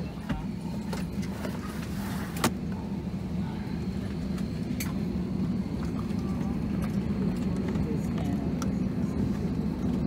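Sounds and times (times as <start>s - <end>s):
aircraft cabin drone: 0.0s - 10.0s.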